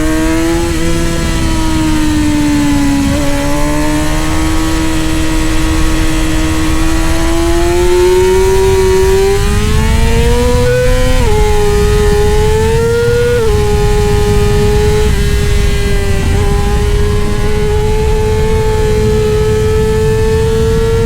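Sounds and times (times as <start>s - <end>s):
motorcycle engine at high revs: 0.0s - 21.0s
wind noise: 0.0s - 21.0s.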